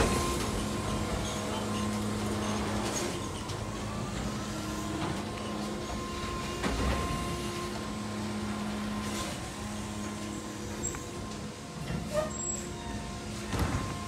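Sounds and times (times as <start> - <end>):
electric garbage truck whine and hum: 0.0 - 14.0.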